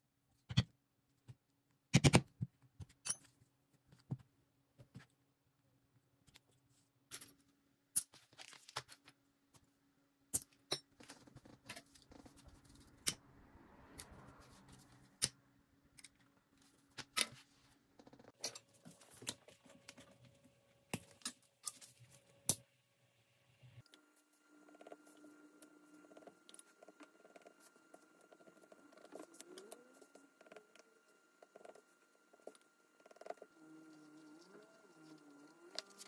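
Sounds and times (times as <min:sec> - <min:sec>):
faint steady hum: 0:03.1 - 0:36.0.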